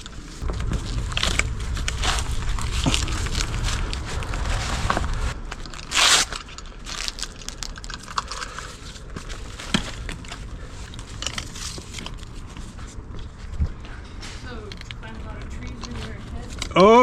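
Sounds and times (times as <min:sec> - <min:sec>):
loud rustle: 0:00.0 - 0:16.8
small clicks and crackles: 0:00.0 - 0:16.8.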